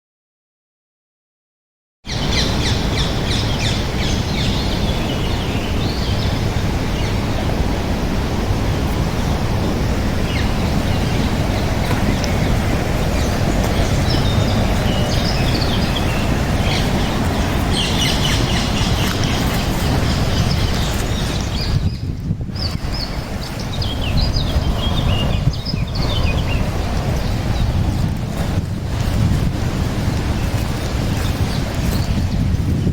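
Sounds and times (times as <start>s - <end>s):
small birds chirping: 2.1s - 7.4s, 9.2s - 32.9s
wind rumble on microphone: 2.1s - 32.9s.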